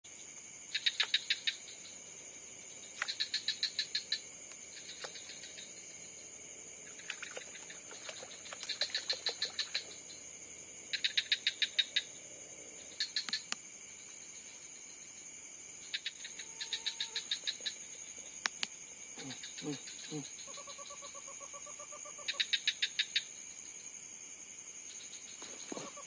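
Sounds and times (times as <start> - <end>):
night insect chorus: 0.0 - 26.0
rapid chirping of night animal: 0.1 - 26.0.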